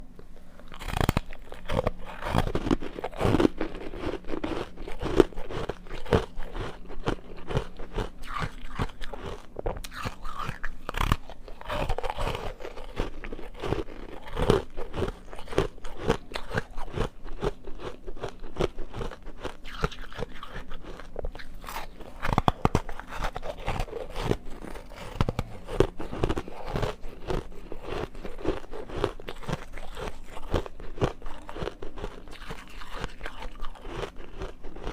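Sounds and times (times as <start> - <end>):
person crunching ice: 0.7 - 34.9.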